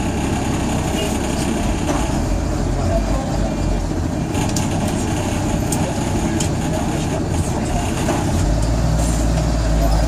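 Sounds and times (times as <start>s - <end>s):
bus engine low rumble: 0.0s - 10.0s.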